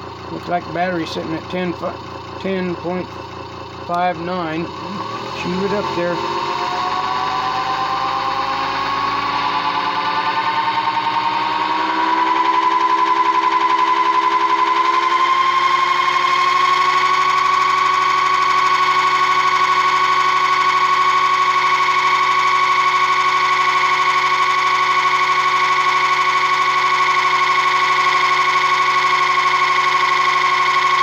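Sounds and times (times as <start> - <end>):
high electrical motor whine: 0.0 - 31.0.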